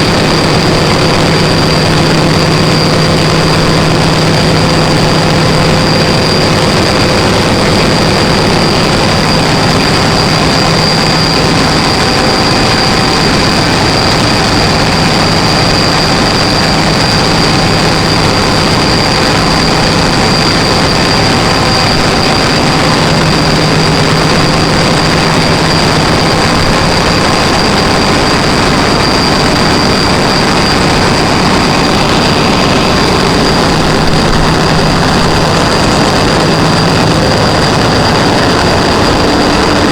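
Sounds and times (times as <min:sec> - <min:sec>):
generator engine drone: 0:00.0 - 0:39.9
steady high whine: 0:00.0 - 0:39.9.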